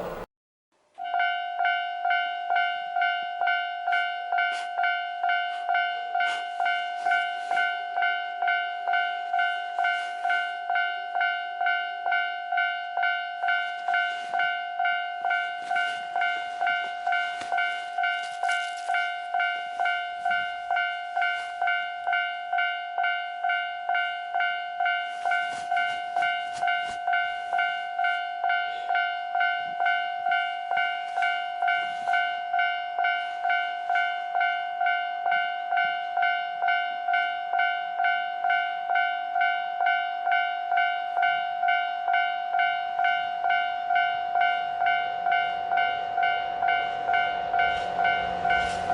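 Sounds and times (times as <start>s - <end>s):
level crossing warning bell: 0.0s - 0.2s, 1.0s - 48.9s.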